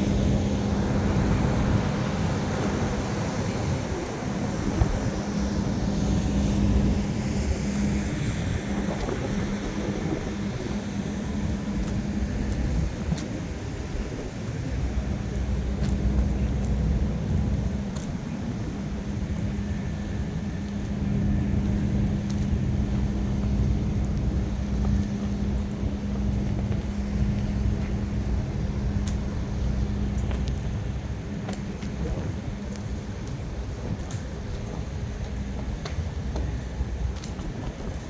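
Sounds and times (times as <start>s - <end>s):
diesel truck engine rumbling: 0.0s - 33.8s
steady hum: 0.0s - 38.0s.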